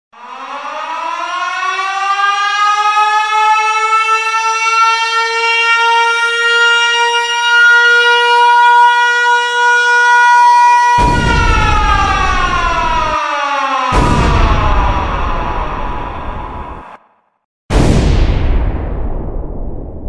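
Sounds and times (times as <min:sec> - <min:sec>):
air-raid siren winding up: 0:00.2 - 0:17.0.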